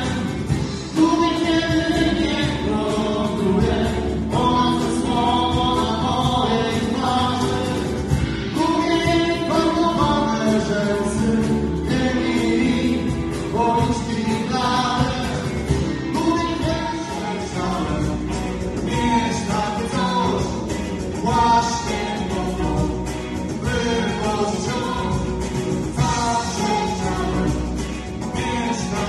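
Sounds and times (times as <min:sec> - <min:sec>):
lead vocal singing: 0:00.0 - 0:29.0
live rock band playing: 0:00.0 - 0:29.0.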